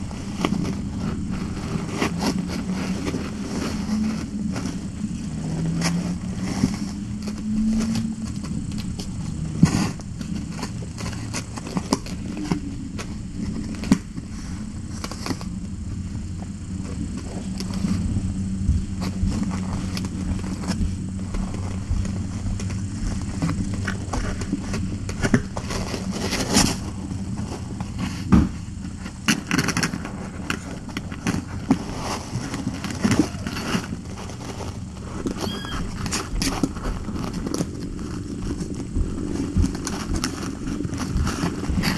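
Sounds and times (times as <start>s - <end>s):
kittens clicking and rustling on microphone: 0.0s - 41.9s.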